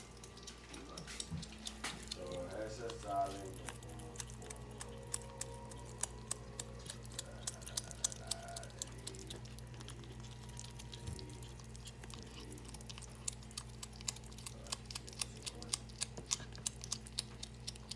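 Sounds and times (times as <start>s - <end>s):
animals chewing meat: 0.0s - 17.9s
steady low hum: 0.0s - 17.9s.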